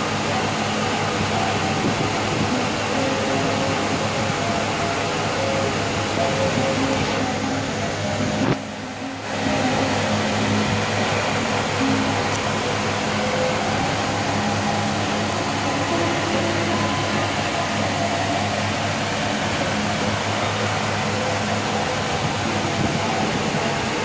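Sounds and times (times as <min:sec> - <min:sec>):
elevator hum: 0:00.0 - 0:24.0
rushing air: 0:00.0 - 0:24.0.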